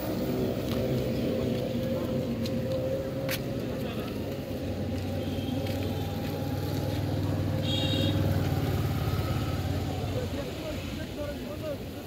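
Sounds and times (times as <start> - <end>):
engine drone: 0.0 - 10.3.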